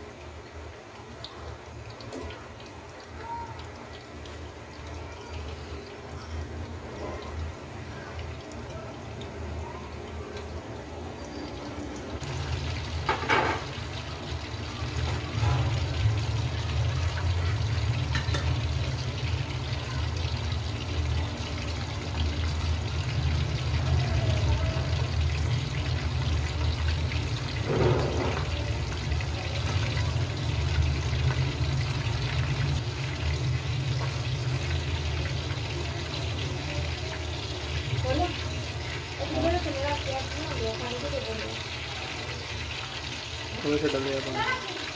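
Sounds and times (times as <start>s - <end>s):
chicken deep-frying in oil: 0.0s - 44.9s.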